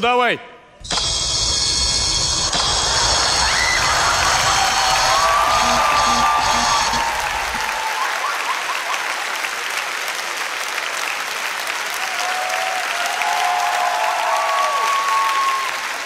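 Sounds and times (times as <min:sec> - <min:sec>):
audience applauding: 0:02.6 - 0:16.0.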